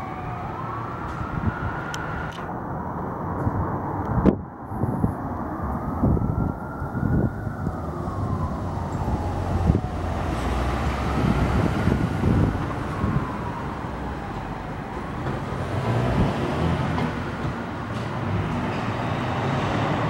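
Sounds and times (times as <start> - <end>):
emergency siren slow wail: 0.0 - 20.0
engine and road rumble: 0.0 - 20.0.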